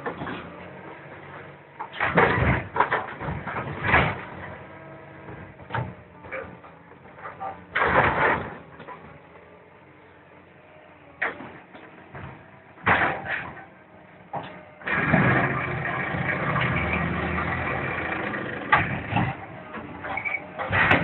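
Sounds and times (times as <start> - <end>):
excavator engine: 0.0 - 21.0.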